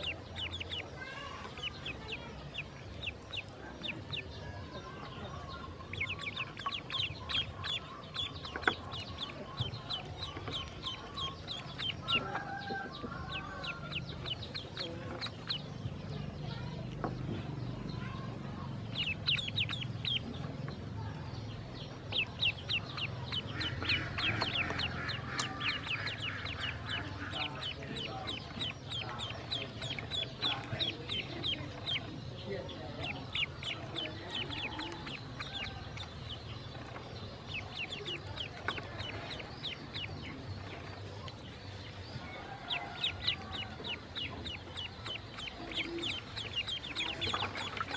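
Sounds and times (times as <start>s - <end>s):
ducklings peeping: 0.0s - 47.9s.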